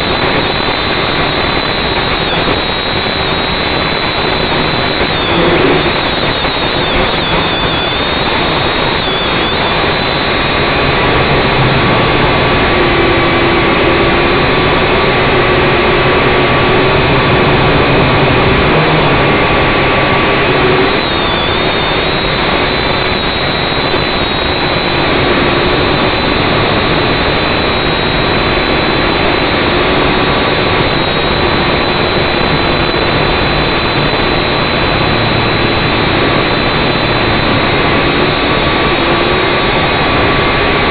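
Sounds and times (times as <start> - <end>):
drone motors whirring: 0.0 - 40.9.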